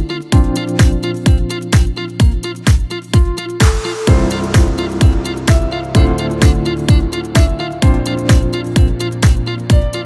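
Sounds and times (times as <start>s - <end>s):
thumping kick drum: 0.0s - 10.0s.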